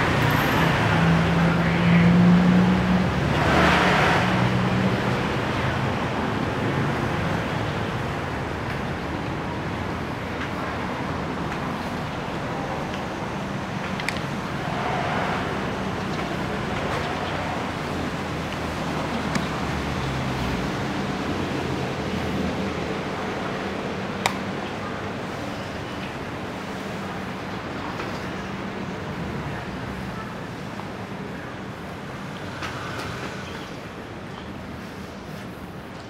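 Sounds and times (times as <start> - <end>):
traffic noise: 0.0 - 36.0.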